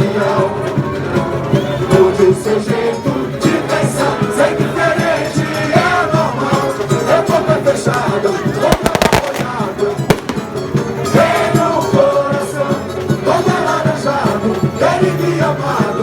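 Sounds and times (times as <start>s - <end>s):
samba drums and percussion: 0.0s - 16.0s
voices singing: 0.0s - 16.0s.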